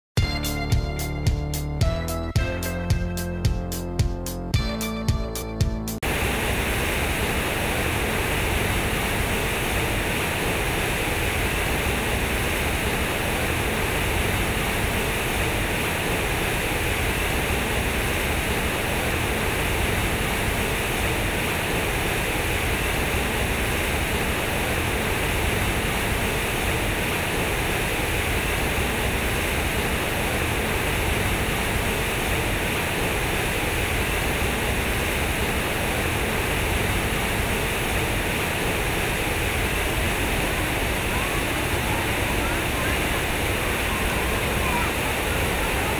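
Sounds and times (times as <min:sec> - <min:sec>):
fountain water splashing into pool: 0:06.0 - 0:45.9.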